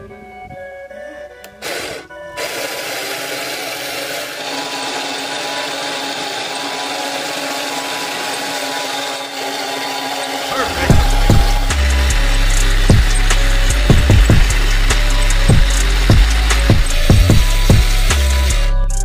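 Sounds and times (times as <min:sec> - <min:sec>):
small motors whirring: 0:01.6 - 0:19.0.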